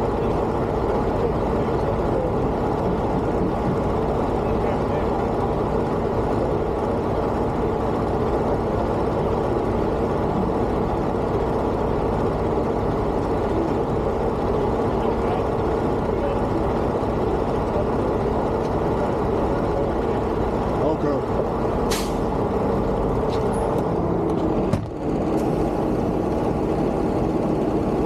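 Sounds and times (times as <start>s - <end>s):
truck engine drone: 0.0s - 28.0s.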